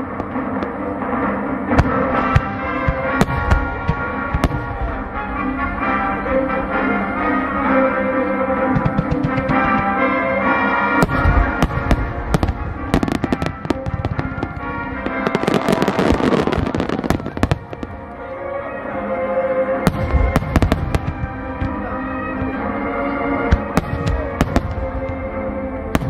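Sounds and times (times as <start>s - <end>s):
fireworks crackling: 0.0s - 6.9s, 8.7s - 18.5s, 19.9s - 26.0s
music playing: 0.0s - 26.0s.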